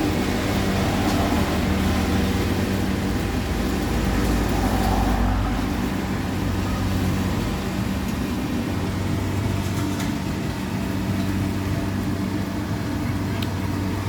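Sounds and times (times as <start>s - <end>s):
harvester engine running: 0.0s - 14.0s.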